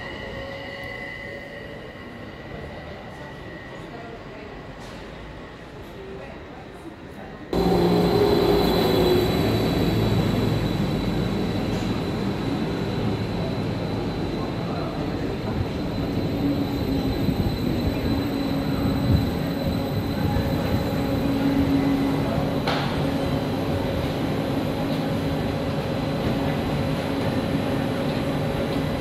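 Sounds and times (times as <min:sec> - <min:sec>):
electric train rumbling and whining: 0:00.0 - 0:29.0.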